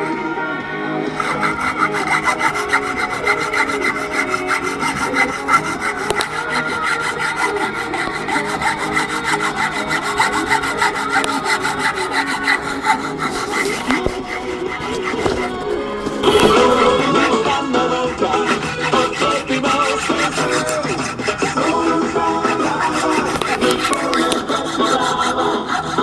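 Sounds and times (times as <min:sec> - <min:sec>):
hand saw cutting bone: 0:01.0 - 0:17.6, 0:18.2 - 0:26.0.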